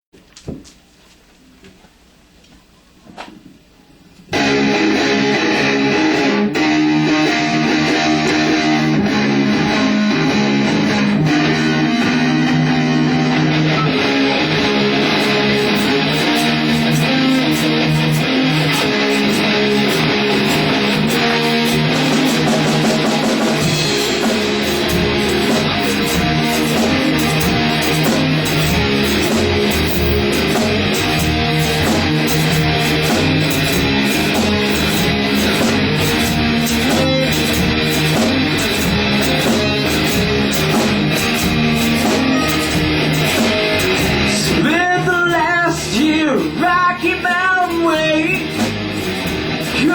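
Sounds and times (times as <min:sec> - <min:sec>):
bass guitar: 0:04.3 - 0:49.9
electric guitar riff: 0:04.3 - 0:49.9.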